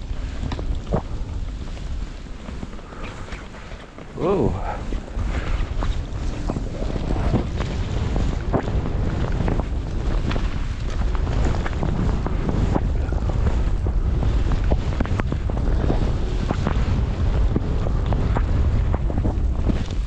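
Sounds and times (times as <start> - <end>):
skis scraping and knocking: 0.0 - 20.0
wind rushing over microphone: 0.0 - 20.0.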